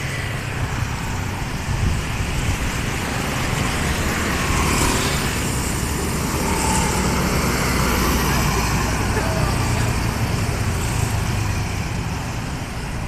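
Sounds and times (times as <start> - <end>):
passing vehicles rumbling: 0.0 - 13.0
vehicle passing close: 0.0 - 13.0.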